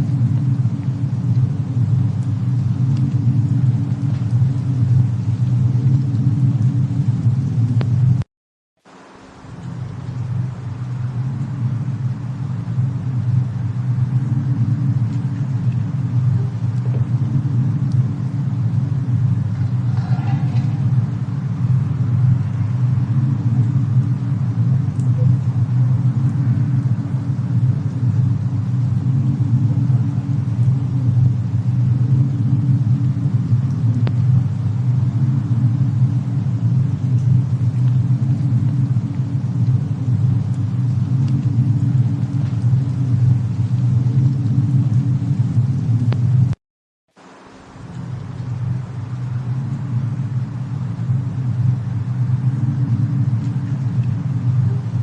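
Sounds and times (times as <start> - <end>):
low rumble: 0.0 - 8.3, 9.0 - 46.6, 47.6 - 55.0
faint fire crackles: 0.0 - 55.0.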